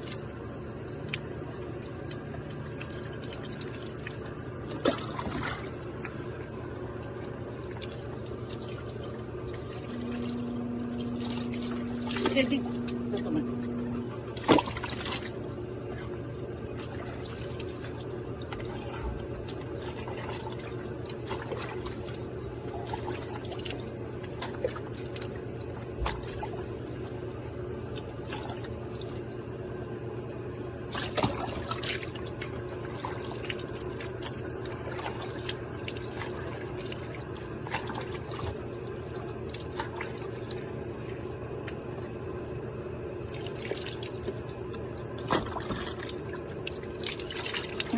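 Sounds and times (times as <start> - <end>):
water splashes: 0.0 - 6.6, 7.2 - 16.1, 16.7 - 29.4, 30.9 - 42.0, 43.3 - 47.9
low steady hum: 0.0 - 47.9.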